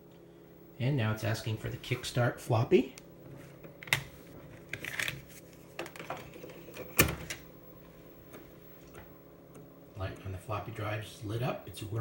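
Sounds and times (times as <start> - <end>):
faint computer hum: 0.0 - 12.0.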